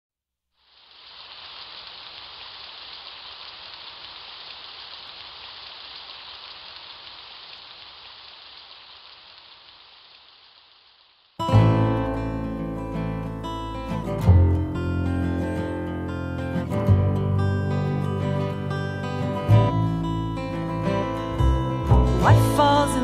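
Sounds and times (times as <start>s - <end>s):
steady rain hiss: 0.5s - 23.0s.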